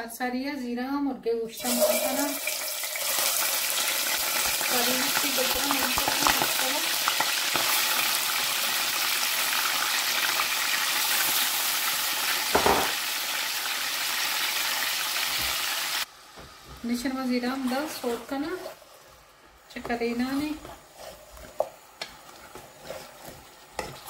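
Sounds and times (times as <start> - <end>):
chicken sizzling in hot oil: 1.6 - 24.0.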